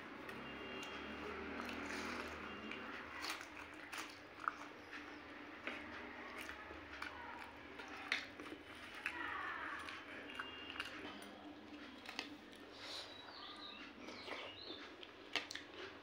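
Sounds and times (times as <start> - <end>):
close-up chewing and mouth sounds: 0.0 - 16.0.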